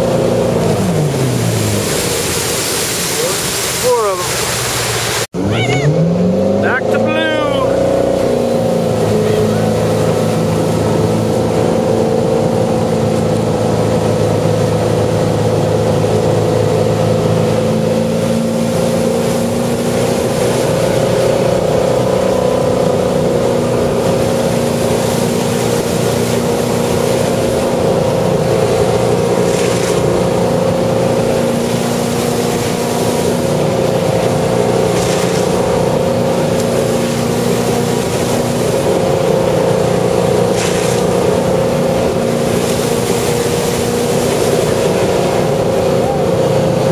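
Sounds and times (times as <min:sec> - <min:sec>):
boat engine running: 0:00.0 - 0:46.9
wind and water rushing: 0:00.0 - 0:46.9.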